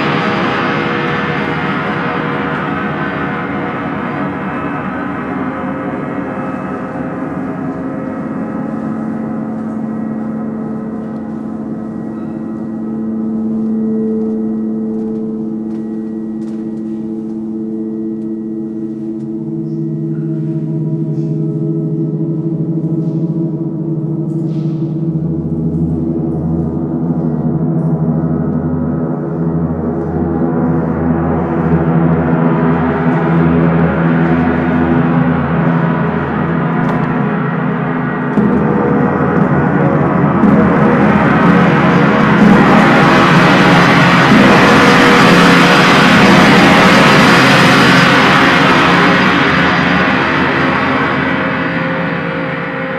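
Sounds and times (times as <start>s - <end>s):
large gongs resonating: 0.0s - 52.9s
low hum: 0.0s - 52.9s.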